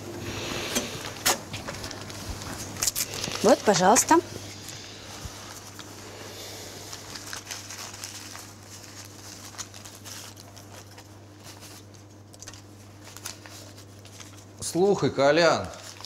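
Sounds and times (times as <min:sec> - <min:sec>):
steady low hum: 0:00.0 - 0:16.0
paper banknotes crinkling: 0:01.0 - 0:04.2, 0:05.4 - 0:14.8, 0:15.6 - 0:16.0.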